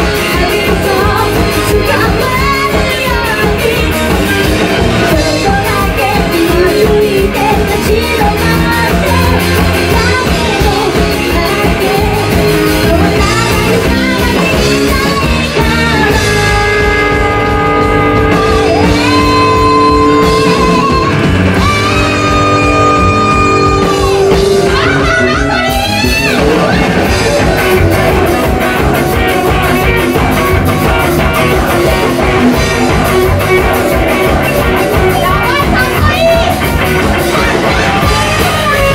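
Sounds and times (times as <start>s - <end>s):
drum kit: 0.0s - 38.9s
electric bass: 0.0s - 38.9s
electric guitar: 0.0s - 38.9s
woman singing: 0.0s - 38.9s.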